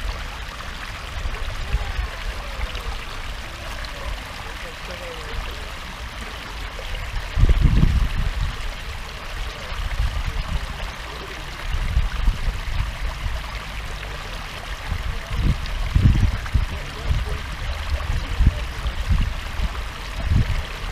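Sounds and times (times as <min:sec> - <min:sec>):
water churning and rushing: 0:00.0 - 0:20.9.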